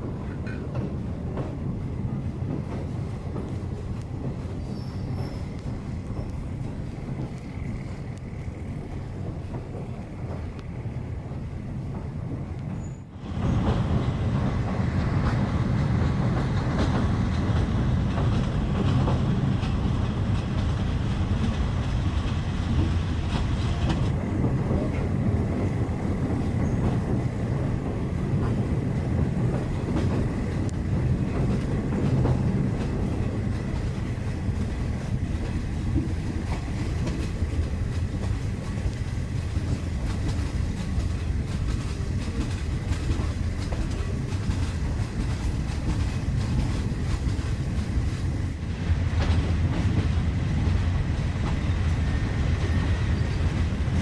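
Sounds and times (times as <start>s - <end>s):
passenger train rumbling on track: 0.0s - 54.0s.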